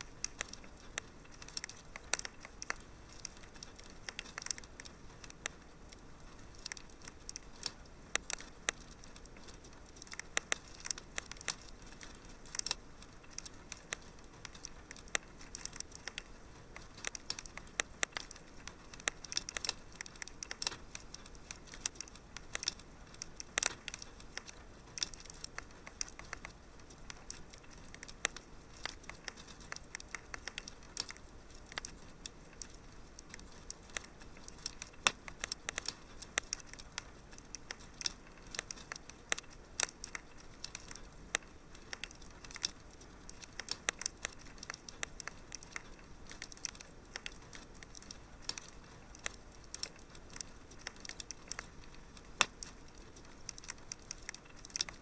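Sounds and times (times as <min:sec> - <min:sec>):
faint steady hiss: 0:00.0 - 0:55.0
fire crackling and popping: 0:00.0 - 0:55.0.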